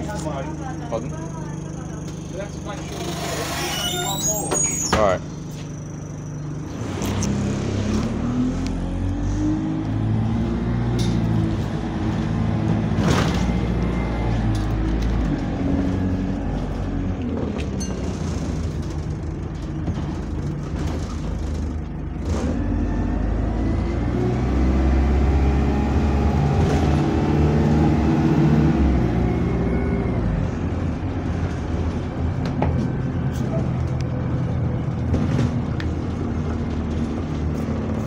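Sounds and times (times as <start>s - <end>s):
bus engine running: 0.0s - 38.0s.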